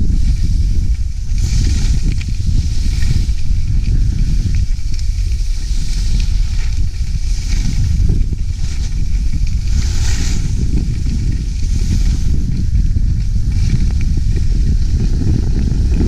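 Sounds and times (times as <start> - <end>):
skis hissing over snow: 0.0 - 16.0
wind rumbling on microphone: 0.0 - 16.0.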